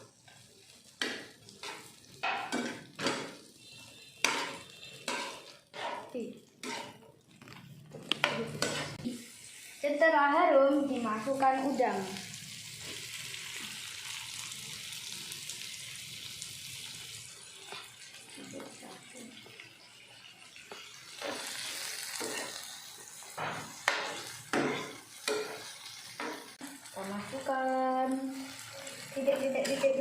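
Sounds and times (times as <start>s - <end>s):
shrimp sizzling in hot oil: 0.0s - 30.0s.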